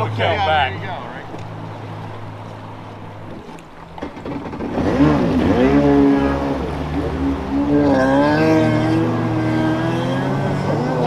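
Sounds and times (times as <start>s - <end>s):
jet ski engine revving: 0.0s - 11.0s.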